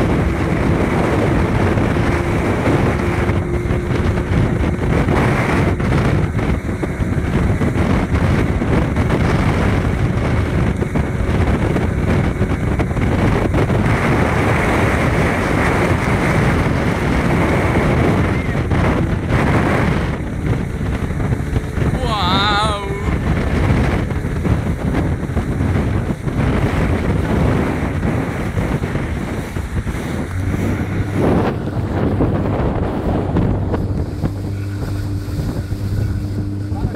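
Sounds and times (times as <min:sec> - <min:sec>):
hull on water: 0:00.0 - 0:36.9
outboard engine running: 0:00.0 - 0:36.9
wind buffeting microphone: 0:00.0 - 0:36.9.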